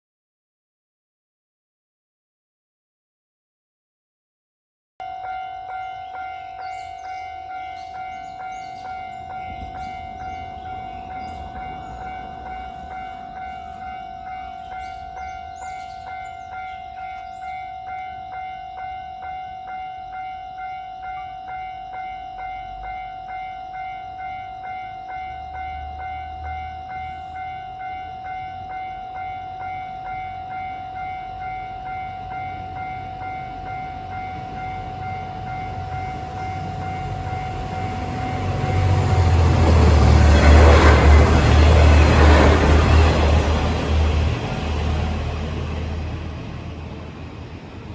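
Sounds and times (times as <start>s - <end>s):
level-crossing bell dinging: 5.0s - 43.5s
low train rumble: 5.0s - 47.9s.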